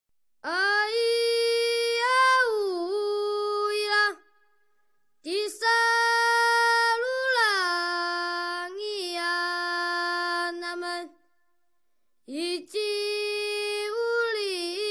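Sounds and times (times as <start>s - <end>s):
high voice singing unaccompanied: 0.4s - 4.3s, 5.2s - 11.2s, 12.3s - 14.9s.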